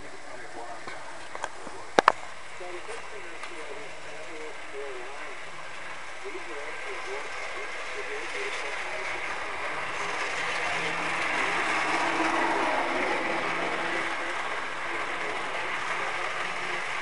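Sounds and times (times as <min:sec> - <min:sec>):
model train wheels rumbling on rails: 0:00.0 - 0:17.0.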